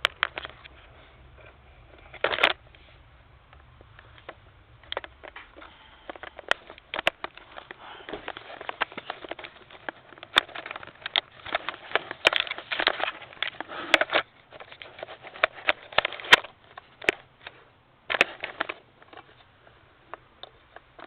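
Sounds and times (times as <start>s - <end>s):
tripod handling rustling and clicks: 0.0s - 2.9s, 3.6s - 19.5s.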